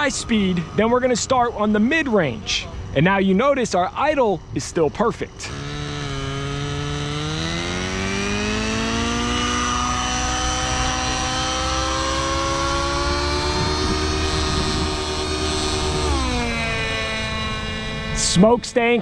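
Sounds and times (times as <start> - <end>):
model helicopter engine spooling up: 0.0 - 2.6, 5.3 - 19.0.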